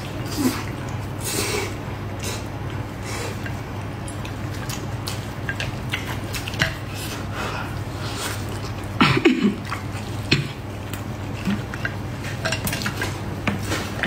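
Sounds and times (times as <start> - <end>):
chewing with wet clicks: 0.0 - 9.0, 9.6 - 14.0.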